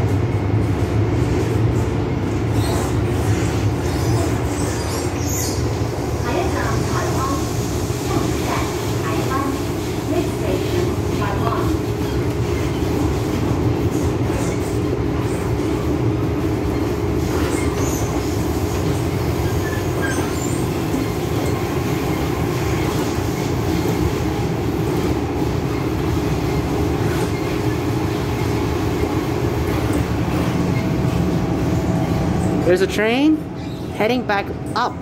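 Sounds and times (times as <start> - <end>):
train rumbling at speed: 0.0 - 35.0.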